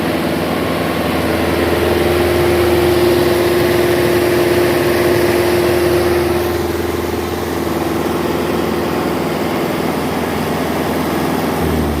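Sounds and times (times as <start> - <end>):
droning tone: 0.0 - 12.0
engine idling: 0.0 - 12.0.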